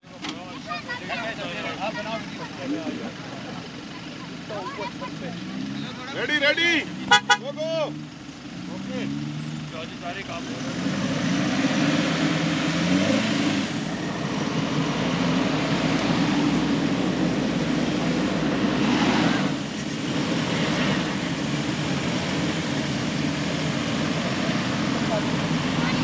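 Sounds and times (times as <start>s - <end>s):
off-road vehicle engine under load: 0.0s - 26.0s.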